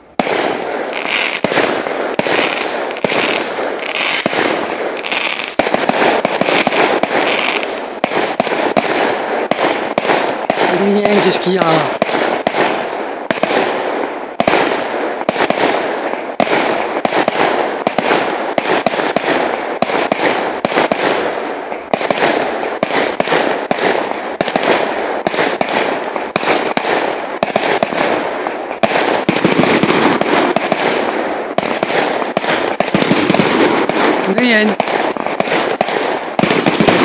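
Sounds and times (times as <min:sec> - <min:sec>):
fireworks shells bursting: 0:00.0 - 0:37.0.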